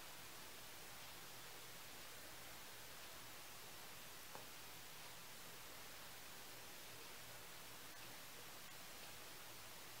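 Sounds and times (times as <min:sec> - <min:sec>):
faint room tone hiss: 0:00.0 - 0:10.0.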